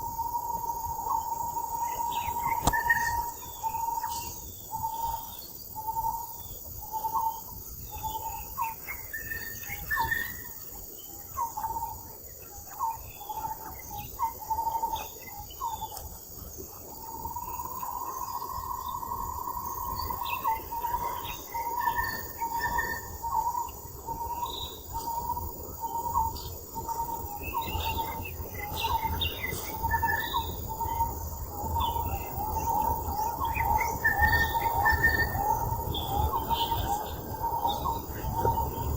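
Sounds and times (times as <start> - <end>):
insect trill: 0.0 - 38.9.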